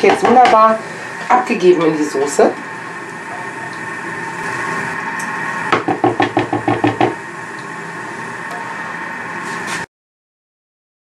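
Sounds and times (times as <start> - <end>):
kitchen hum: 0.0 - 9.9.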